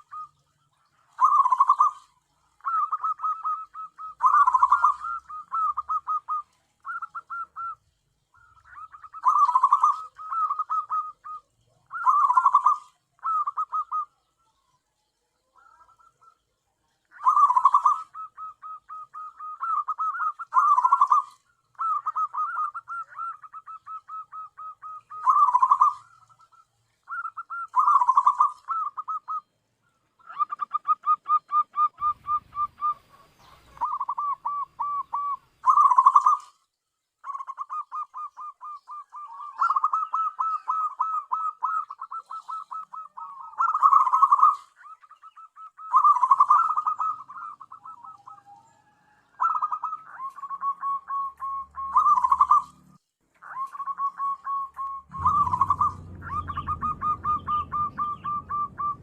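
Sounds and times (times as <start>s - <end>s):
dove calling staccato notes: 0.0s - 14.3s, 15.6s - 29.5s, 30.2s - 36.5s, 37.2s - 59.0s.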